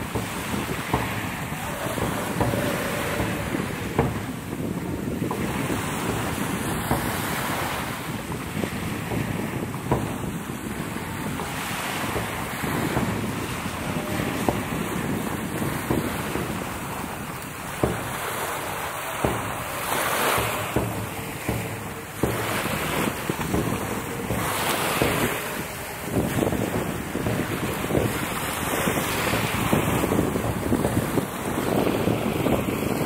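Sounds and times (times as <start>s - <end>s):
sharp knocks: 0.0s - 32.8s
sea water: 0.0s - 33.0s
wind buffeting microphone: 0.0s - 33.0s.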